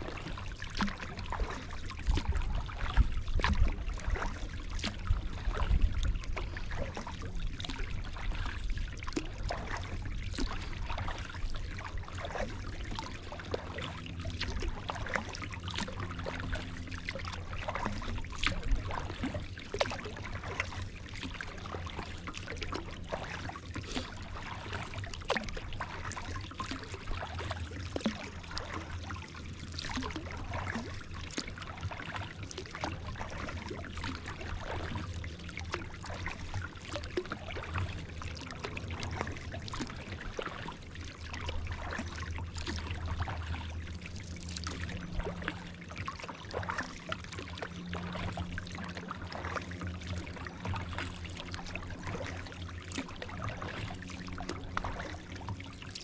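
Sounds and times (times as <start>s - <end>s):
paddle splashing water: 0.0s - 56.0s
water dripping off paddle: 0.0s - 56.0s.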